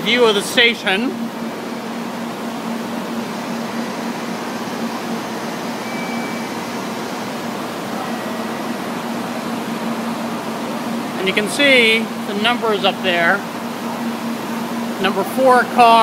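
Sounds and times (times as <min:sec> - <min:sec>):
ventilation machinery rushing: 0:00.0 - 0:16.0.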